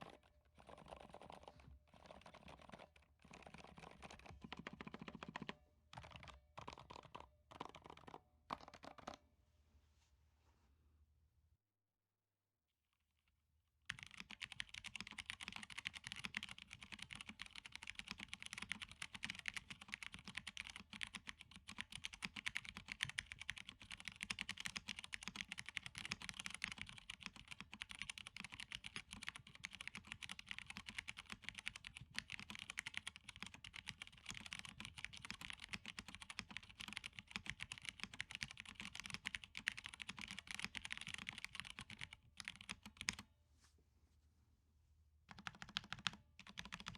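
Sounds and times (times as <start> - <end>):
fast mechanical keyboard typing: 0.0 - 9.2, 13.9 - 43.2, 45.3 - 46.9.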